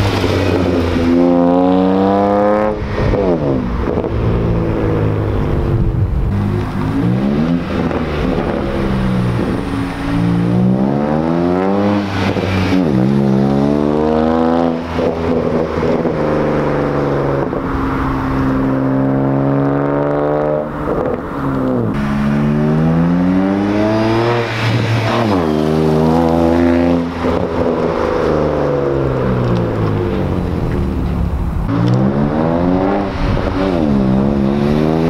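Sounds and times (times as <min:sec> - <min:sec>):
car exhaust roaring: 0:00.0 - 0:35.0.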